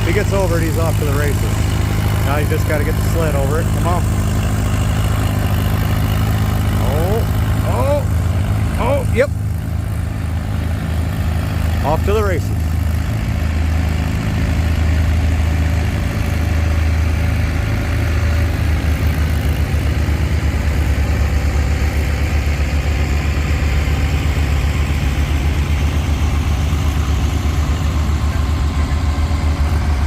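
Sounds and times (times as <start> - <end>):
tractor engine running hard: 0.0 - 30.0.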